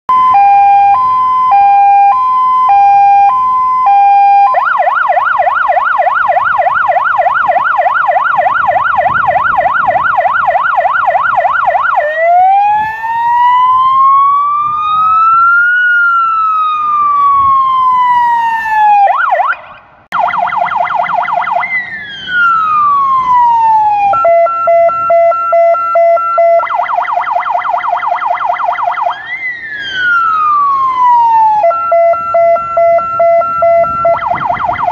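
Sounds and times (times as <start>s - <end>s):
fire engine electronic sirens: 0.1s - 34.9s.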